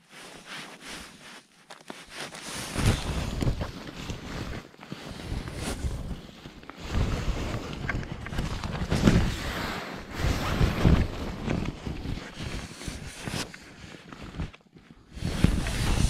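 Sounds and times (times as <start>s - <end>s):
rustling in snow: 0.0s - 16.0s.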